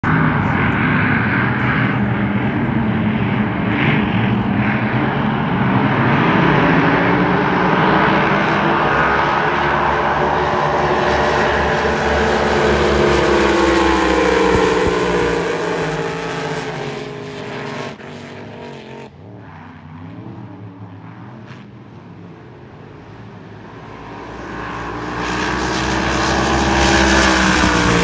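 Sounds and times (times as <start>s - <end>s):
racing powerboat engines droning: 0.0s - 28.0s.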